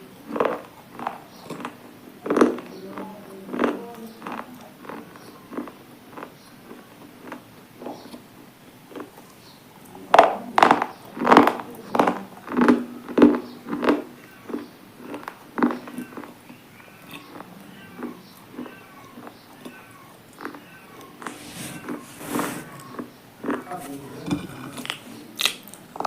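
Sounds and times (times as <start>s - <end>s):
crunching and chewing: 0.0s - 26.0s.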